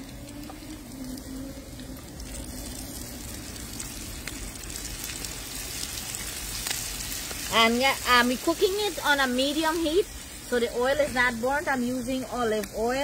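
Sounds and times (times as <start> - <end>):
chicken frying in oil: 0.0 - 13.0
oil popping and crackling: 0.0 - 13.0.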